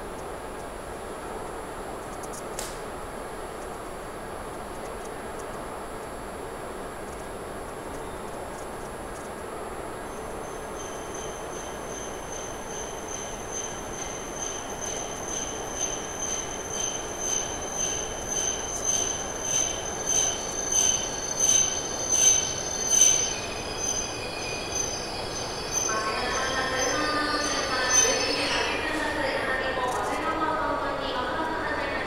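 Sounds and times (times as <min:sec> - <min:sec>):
train pulsing high whine: 0:02.9 - 0:32.0.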